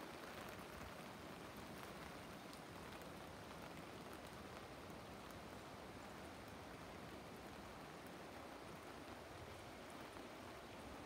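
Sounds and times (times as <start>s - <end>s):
faint steady rain: 0.0s - 11.0s
light ticks of raindrops: 0.0s - 11.0s.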